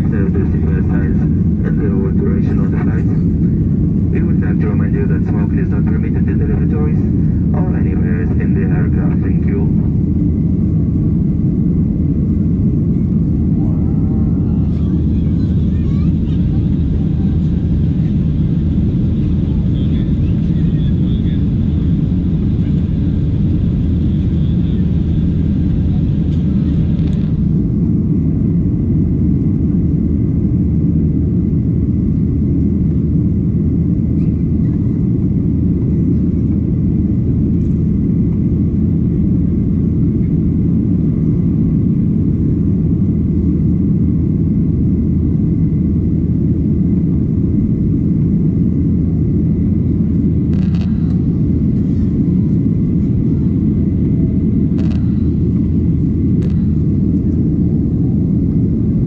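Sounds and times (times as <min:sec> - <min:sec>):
airliner cabin engine roar: 0:00.0 - 0:59.0.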